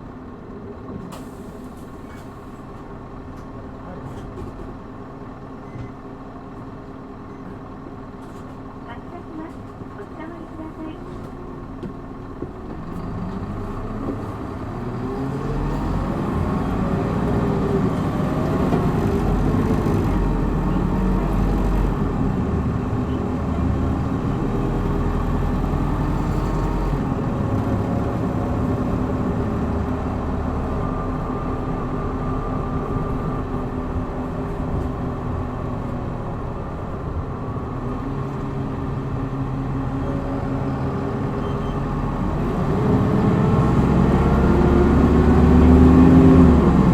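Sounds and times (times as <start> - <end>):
bus engine accelerating: 0.0 - 46.9
road and tyre noise: 0.0 - 46.9.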